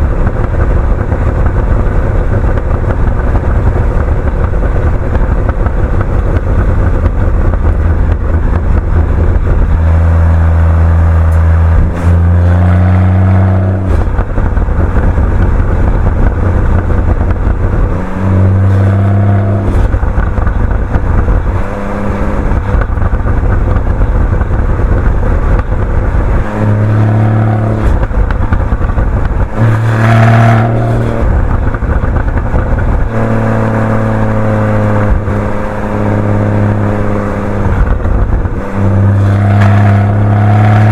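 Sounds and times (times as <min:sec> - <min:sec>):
car engine accelerating: 0:00.0 - 0:40.9
exhaust pops: 0:00.0 - 0:40.9.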